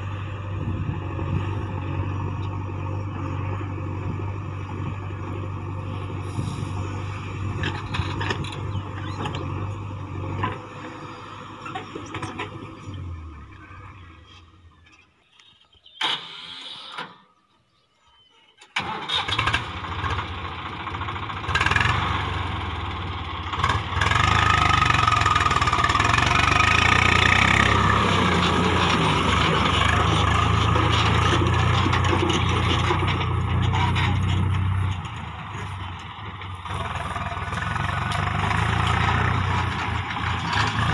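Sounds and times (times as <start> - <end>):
backhoe diesel engine running: 0.0 - 15.0, 18.8 - 40.9
tractor diesel engine under load: 0.0 - 15.0, 16.0 - 17.2, 18.7 - 40.9.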